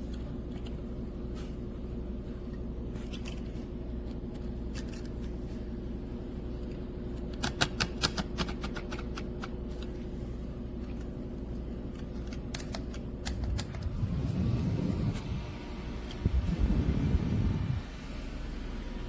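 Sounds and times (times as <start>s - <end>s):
small fan motor hum: 0.0s - 19.0s.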